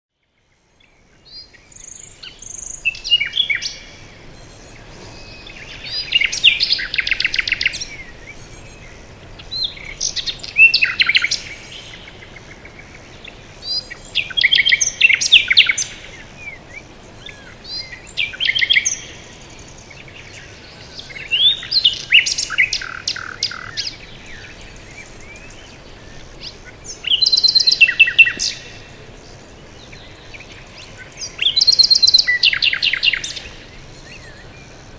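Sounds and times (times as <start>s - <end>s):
faint background hiss: 0.2s - 34.9s
songbird singing trilled phrases: 0.3s - 34.9s.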